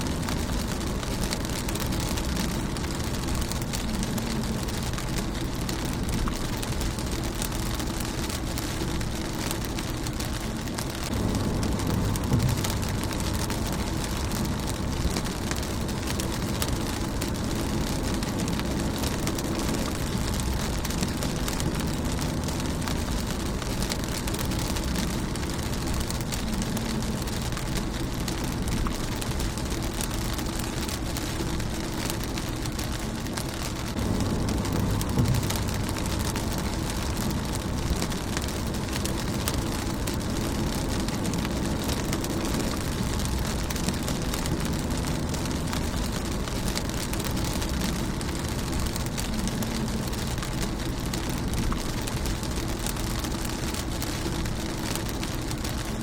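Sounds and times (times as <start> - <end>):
low rumble: 0.0 - 56.0
rain on a windshield: 0.0 - 56.0.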